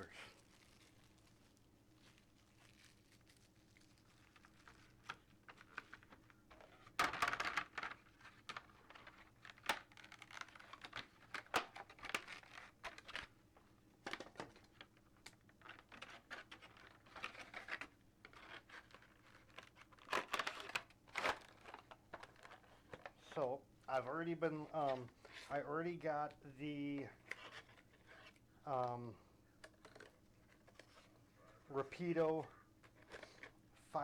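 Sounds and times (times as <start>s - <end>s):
packaging rustling and crinkling: 0.0s - 34.0s.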